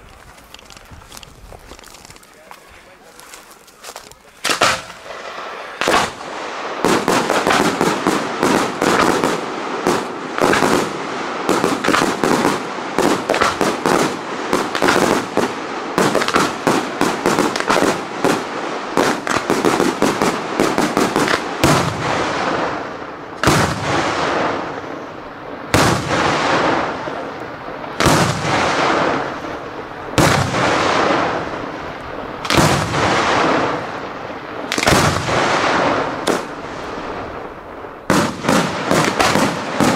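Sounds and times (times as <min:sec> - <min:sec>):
fireworks exploding: 0:00.0 - 0:39.9.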